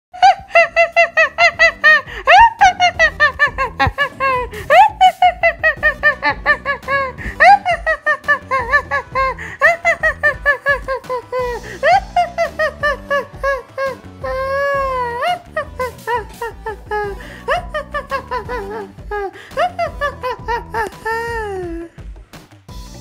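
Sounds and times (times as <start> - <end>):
high-pitched cackling laughter: 0.2 - 21.9.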